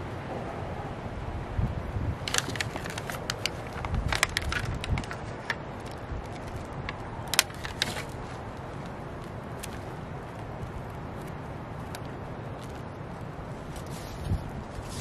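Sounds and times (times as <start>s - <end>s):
wind rumble on microphone: 0.0s - 15.0s
plastic pots crackling: 2.2s - 15.0s.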